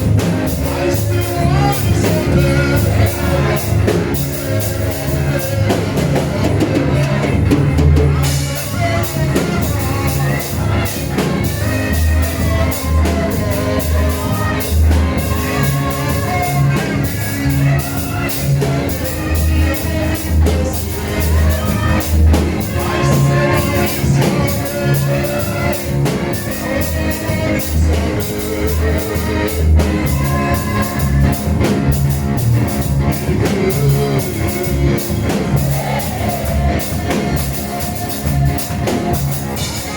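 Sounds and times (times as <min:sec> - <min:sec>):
drum kit beat: 0:00.0 - 0:39.9
voices singing: 0:00.0 - 0:39.9.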